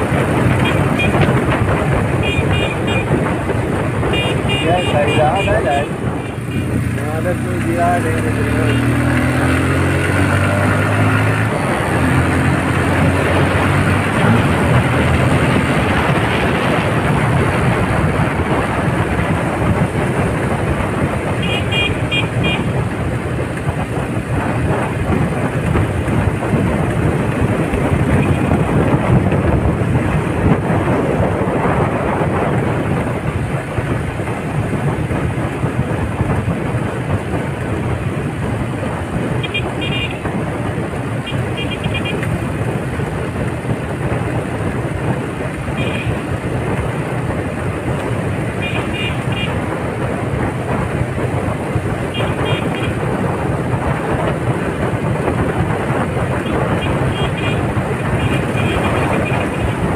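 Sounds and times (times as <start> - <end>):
engine noise: 0.0 - 59.9
wind rushing: 0.0 - 59.9.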